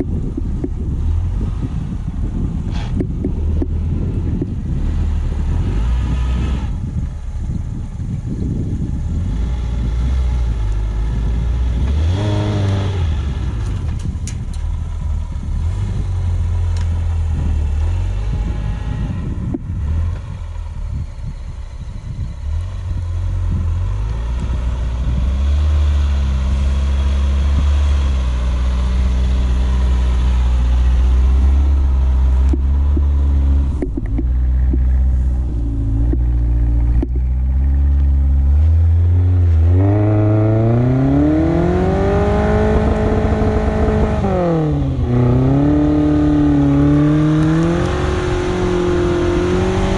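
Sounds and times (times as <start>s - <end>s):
engine revving under load: 0.0s - 49.9s.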